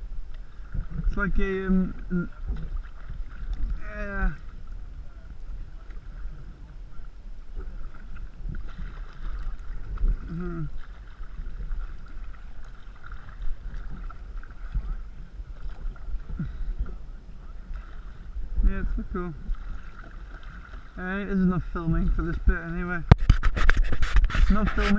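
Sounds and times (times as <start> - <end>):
water sounds: 0.0 - 24.9
wind rumble on microphone: 0.0 - 24.9.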